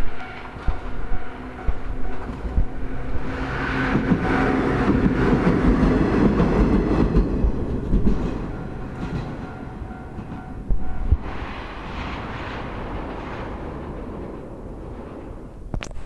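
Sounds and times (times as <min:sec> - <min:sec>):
train passing: 0:00.0 - 0:15.7.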